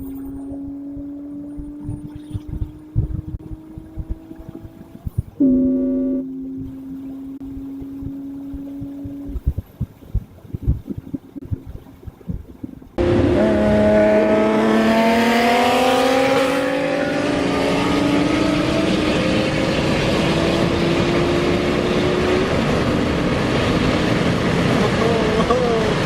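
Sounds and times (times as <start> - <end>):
road and wind noise: 0.0 - 26.0
car engine pulling hard: 0.1 - 9.4, 13.0 - 26.0.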